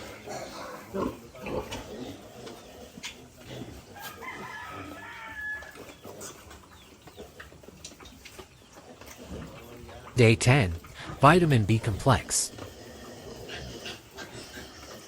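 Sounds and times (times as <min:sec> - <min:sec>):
farm animal calls: 0:00.0 - 0:15.0.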